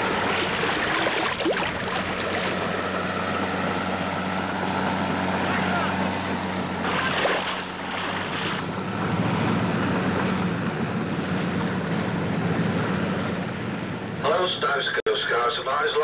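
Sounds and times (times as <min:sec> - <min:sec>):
sea water rushing and splashing: 0:00.0 - 0:13.7
boat engines running: 0:00.0 - 0:16.0.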